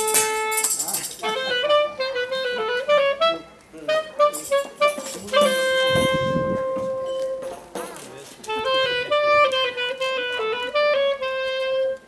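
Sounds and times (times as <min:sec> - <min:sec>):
woodwind melody: 0:00.0 - 0:07.8, 0:08.4 - 0:12.0.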